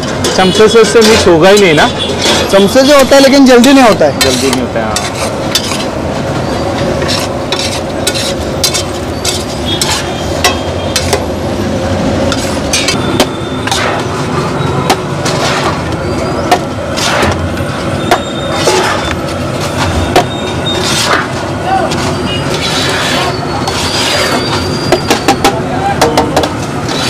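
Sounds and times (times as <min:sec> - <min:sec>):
steel plates scraping on griddle: 0:00.0 - 0:11.3, 0:12.3 - 0:25.5, 0:26.6 - 0:27.0.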